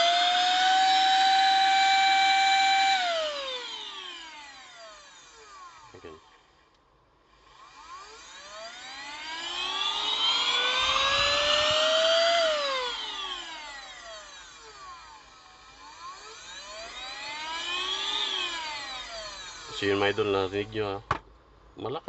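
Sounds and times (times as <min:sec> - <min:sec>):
vacuum motor whining: 0:00.0 - 0:21.0.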